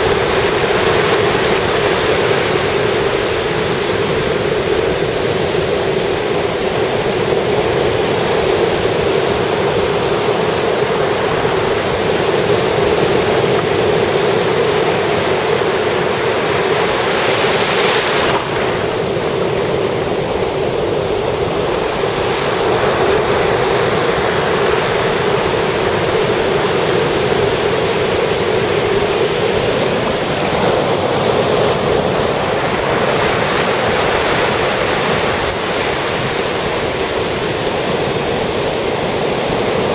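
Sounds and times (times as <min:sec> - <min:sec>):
sea surf breaking on beach: 0:00.0 - 0:39.9.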